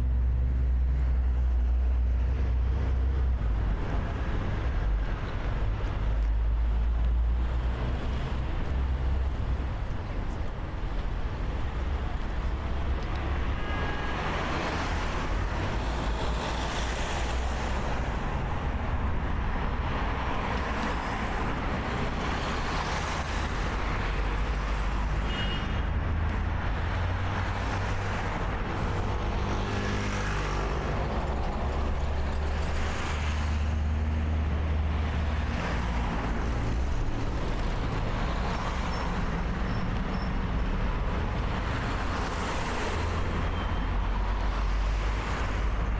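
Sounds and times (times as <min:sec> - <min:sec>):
cars and trucks passing: 0:00.0 - 0:45.9
low traffic rumble: 0:00.0 - 0:45.9.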